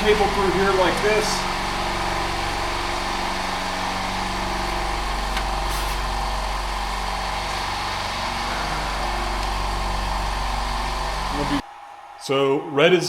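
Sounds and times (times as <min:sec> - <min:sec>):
motor-driven machine running: 0:00.0 - 0:12.0.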